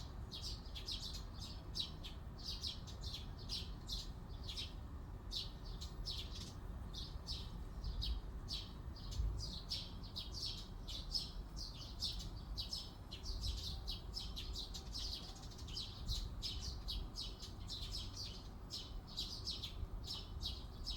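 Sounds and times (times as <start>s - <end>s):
songbirds chirping: 0.0s - 20.9s.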